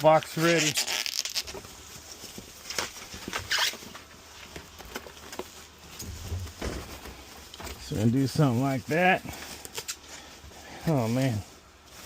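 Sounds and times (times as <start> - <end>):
loud plastic crackle: 0.0 - 12.0
plastic wrap rustling: 0.0 - 12.0.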